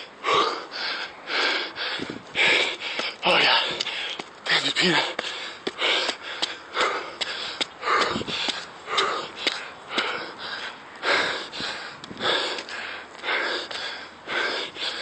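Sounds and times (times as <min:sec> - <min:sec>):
man panting heavily: 0:00.0 - 0:15.0.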